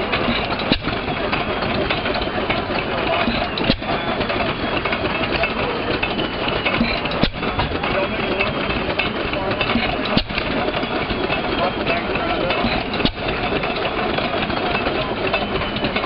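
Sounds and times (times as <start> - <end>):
hit-and-miss engine running: 0.0 - 16.0.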